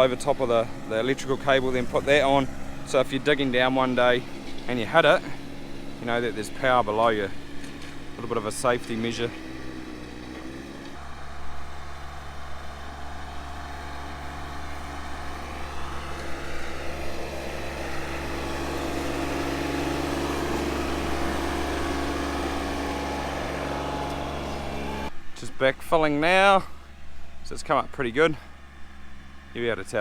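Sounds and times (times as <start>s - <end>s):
machine engine humming: 0.0s - 30.0s.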